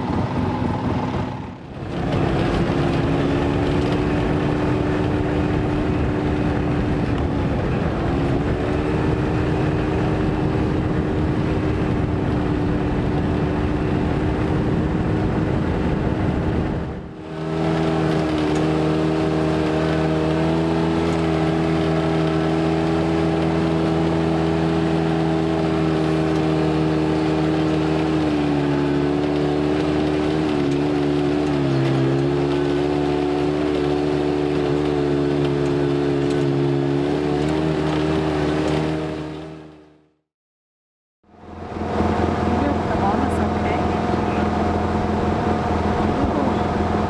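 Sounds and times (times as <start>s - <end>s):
heavy rumbling noise: 0.0s - 38.5s, 41.3s - 47.0s
vehicle engine droning: 0.0s - 40.2s, 41.2s - 47.0s.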